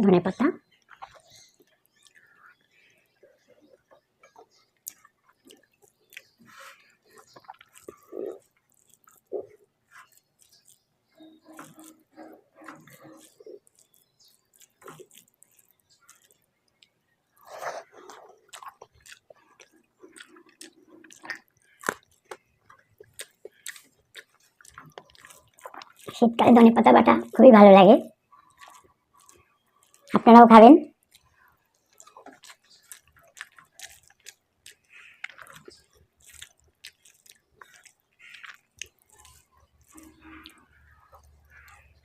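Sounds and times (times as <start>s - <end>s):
chewing mouth clicks and smacks: 0.7s - 26.2s, 28.2s - 30.2s, 30.9s - 42.0s.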